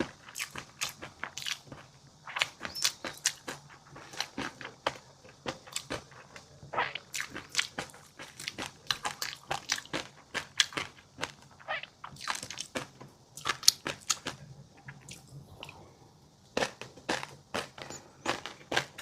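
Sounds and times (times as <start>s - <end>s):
crunching and chewing food: 0.0s - 19.0s.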